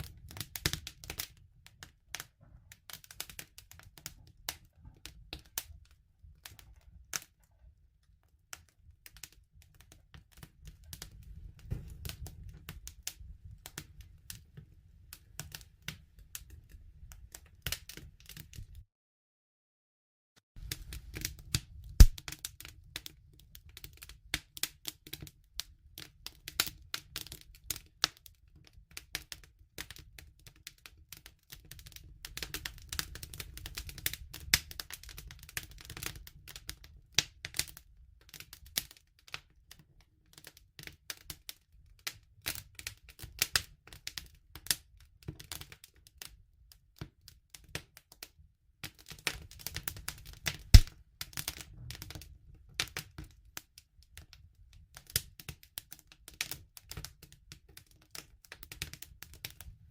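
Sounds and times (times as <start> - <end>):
wood fire crackling: 0.0 - 18.8, 20.6 - 46.4, 48.8 - 59.9.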